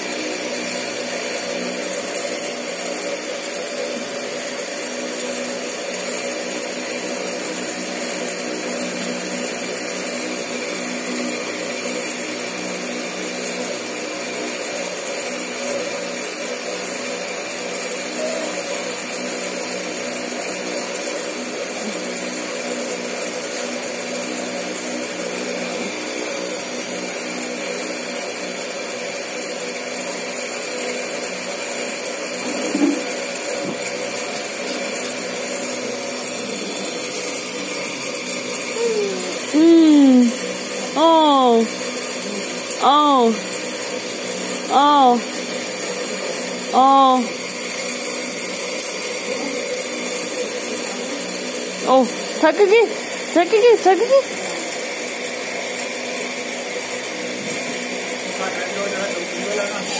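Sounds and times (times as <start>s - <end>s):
electric motor hum with hiss: 0.0s - 59.9s.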